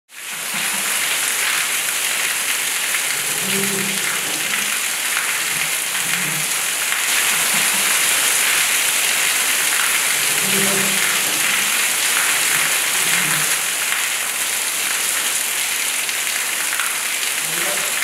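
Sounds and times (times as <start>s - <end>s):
steady rain: 0.1s - 18.0s.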